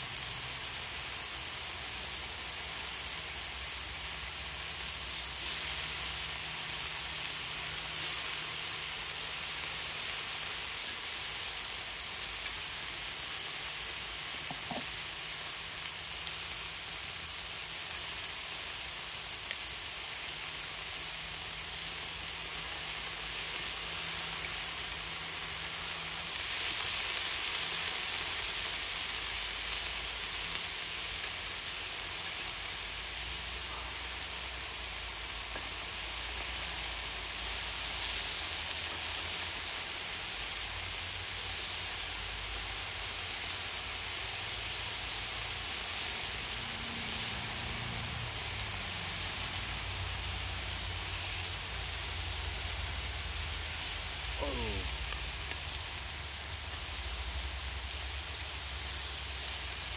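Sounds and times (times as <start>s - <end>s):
pork sizzling on a griddle: 0.0s - 59.9s.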